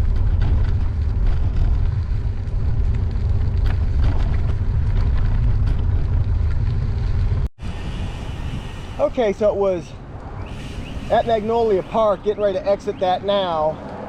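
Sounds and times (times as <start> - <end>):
wind rumble on microphone: 0.0 - 12.8
bike tyres on gravel: 0.0 - 14.0.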